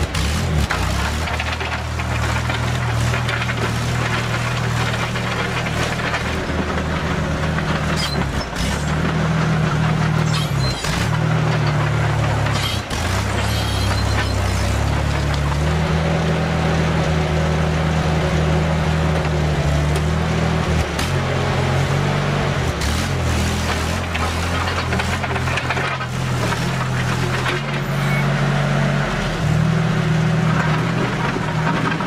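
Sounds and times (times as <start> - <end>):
dozer engine under load: 0.0 - 32.0.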